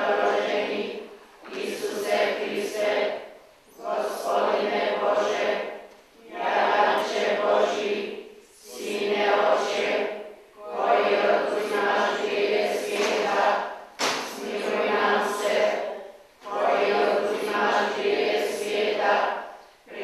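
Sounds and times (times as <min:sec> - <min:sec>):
congregation singing in unison: 0:00.0 - 0:20.0.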